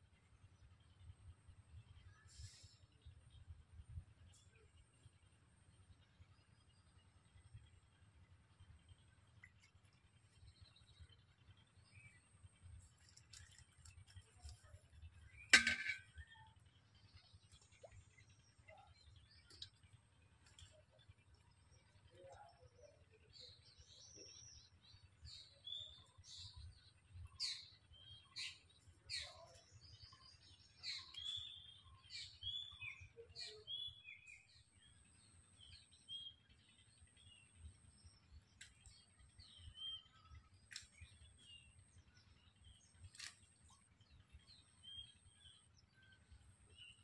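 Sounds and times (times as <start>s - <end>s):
small birds chirping: 0.7s - 47.0s.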